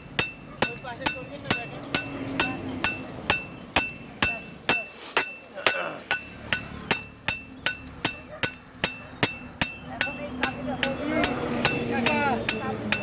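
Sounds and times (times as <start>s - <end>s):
hammer striking steel on anvil: 0.0s - 13.0s.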